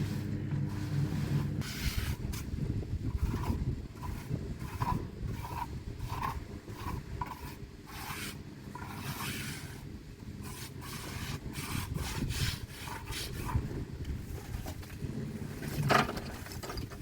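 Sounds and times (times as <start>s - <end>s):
rough scraping strokes: 0.0s - 14.8s
steady low rumble: 0.0s - 16.5s.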